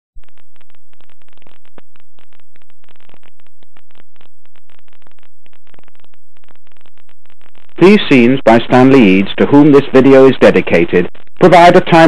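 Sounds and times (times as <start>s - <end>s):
low hum: 0.2s - 12.0s
rapid crackling clicks: 0.2s - 12.0s.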